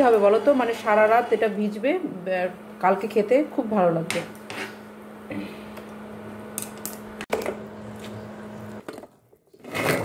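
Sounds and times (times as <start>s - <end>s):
induction cooktop humming: 0.0s - 10.0s.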